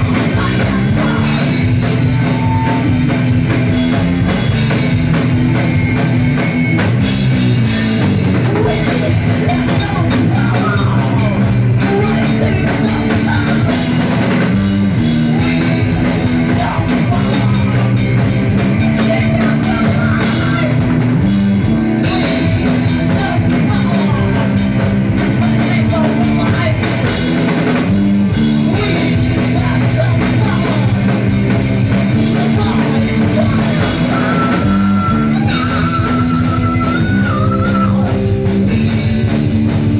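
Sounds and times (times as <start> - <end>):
bass: 0.0 - 39.9
distorted electric guitar: 0.0 - 39.9
drum kit: 0.0 - 39.9.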